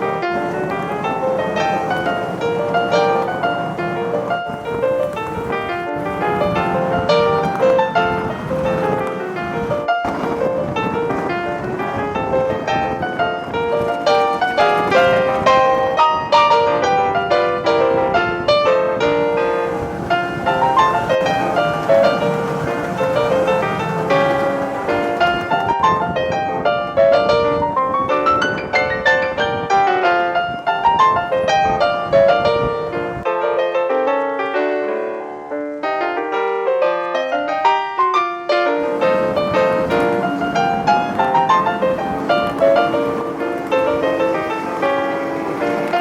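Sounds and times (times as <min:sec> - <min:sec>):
solo piano music: 0:00.0 - 0:46.0.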